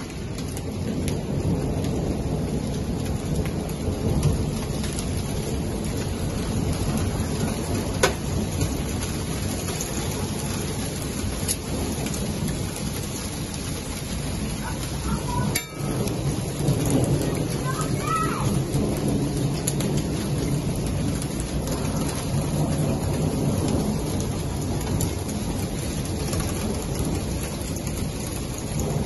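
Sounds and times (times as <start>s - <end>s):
hail falling with rushing hiss: 0.0s - 29.0s.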